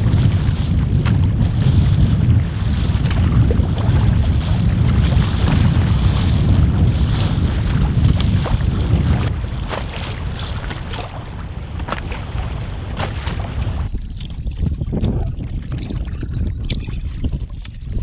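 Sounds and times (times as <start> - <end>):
waves slapping against canoe hull: 0.0 - 15.2
wind noise on microphone: 0.0 - 18.0.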